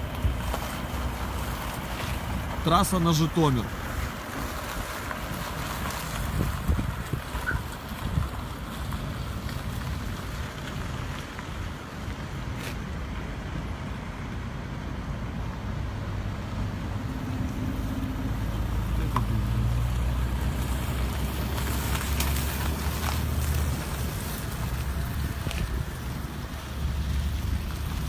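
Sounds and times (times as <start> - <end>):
vehicle engine rumble and tyre noise: 0.0 - 28.0.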